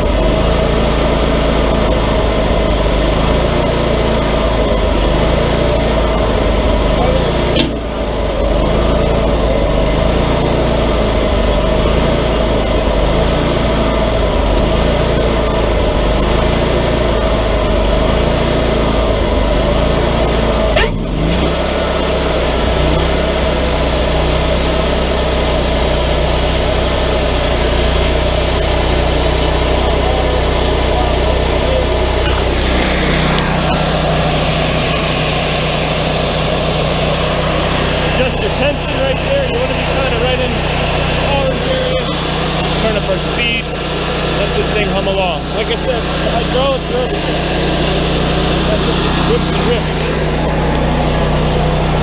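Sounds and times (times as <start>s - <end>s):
sawmill engine running: 0.0s - 52.0s.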